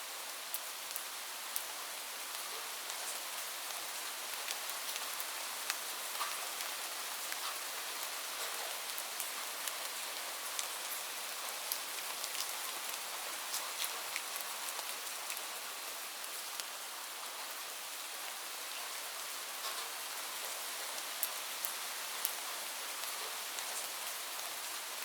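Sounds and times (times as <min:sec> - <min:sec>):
light rain hissing: 0:00.0 - 0:25.0.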